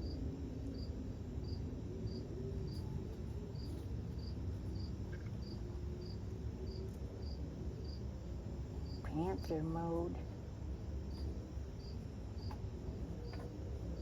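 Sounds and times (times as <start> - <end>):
insects chirping: 0.0 - 14.0
low background rumble: 0.0 - 14.0.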